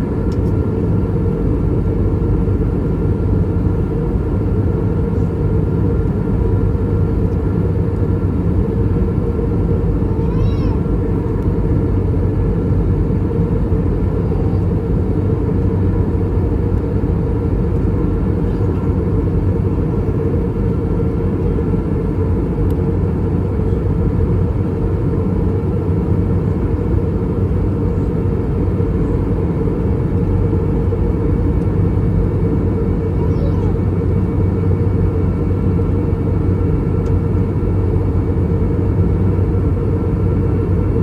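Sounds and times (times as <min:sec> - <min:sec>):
aircraft cabin engine roar: 0:00.0 - 0:41.0.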